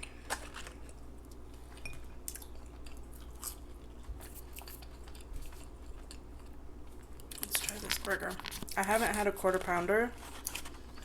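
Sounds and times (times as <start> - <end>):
chewing food: 0.0 - 8.8, 9.5 - 11.0.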